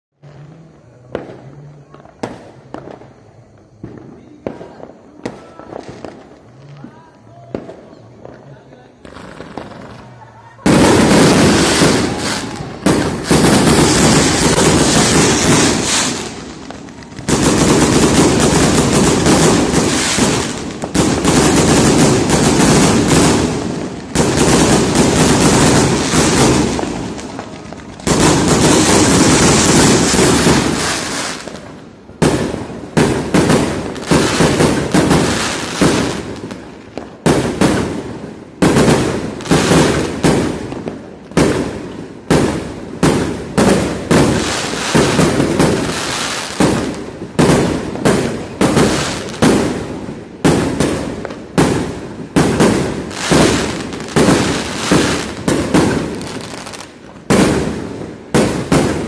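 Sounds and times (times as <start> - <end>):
fireworks bangs: 0.2 - 59.0.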